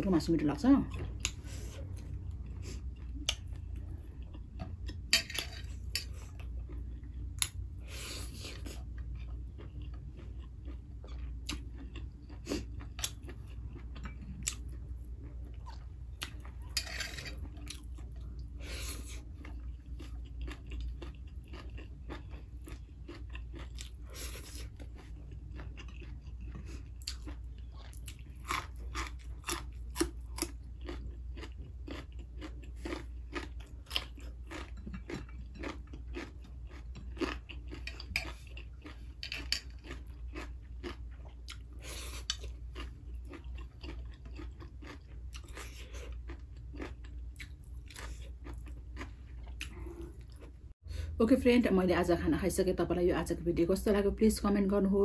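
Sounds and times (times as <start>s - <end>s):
person chewing crunchy food: 0.9s - 50.8s.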